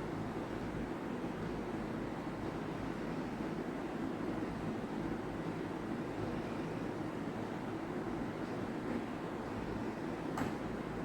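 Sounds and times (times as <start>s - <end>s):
low background rumble and hum: 0.0s - 11.0s.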